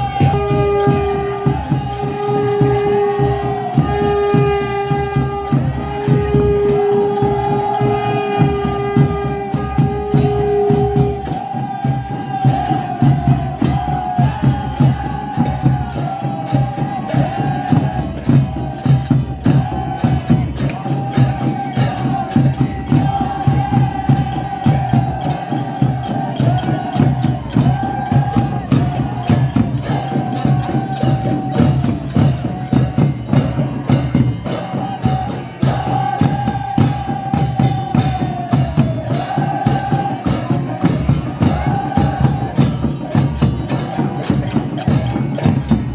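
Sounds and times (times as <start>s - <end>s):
fast hand percussion beat: 0.0s - 45.9s.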